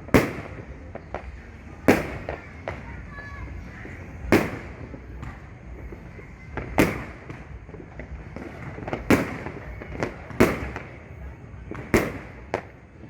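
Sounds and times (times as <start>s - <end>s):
distant fireworks din: 0.0s - 13.0s
loud fireworks bangs: 0.0s - 13.0s
small firework pops: 0.0s - 13.0s.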